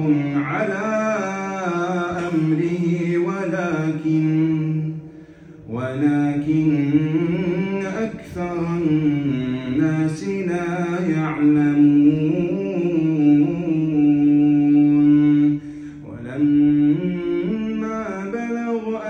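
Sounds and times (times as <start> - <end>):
man chanting into a microphone: 0.0 - 5.0, 5.7 - 19.0.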